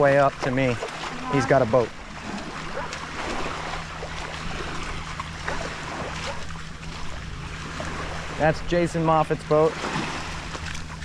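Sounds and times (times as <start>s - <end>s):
gentle water at the shore: 0.0s - 11.0s
steady low hum: 0.0s - 11.0s
wind: 0.0s - 11.0s.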